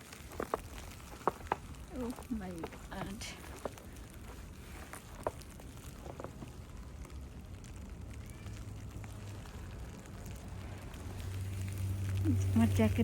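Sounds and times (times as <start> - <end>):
snowstorm hiss: 0.0 - 13.0.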